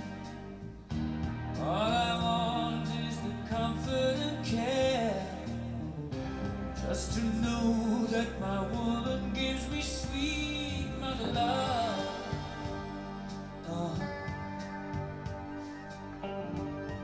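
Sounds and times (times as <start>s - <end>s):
song with vocals over loudspeakers: 0.0s - 17.0s.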